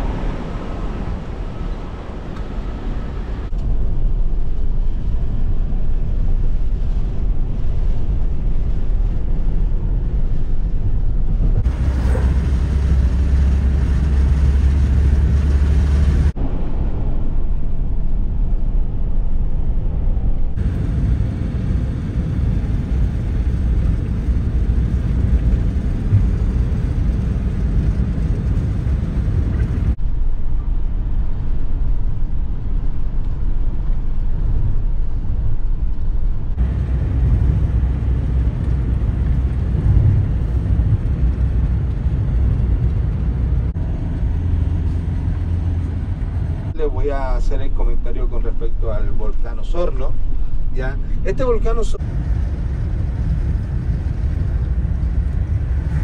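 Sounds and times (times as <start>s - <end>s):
road and engine rumble in van: 0.0s - 56.0s.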